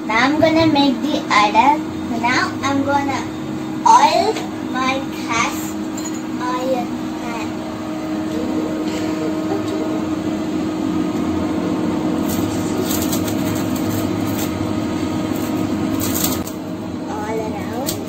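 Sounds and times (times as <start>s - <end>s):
cooktop fan whoosh: 0.0s - 18.0s.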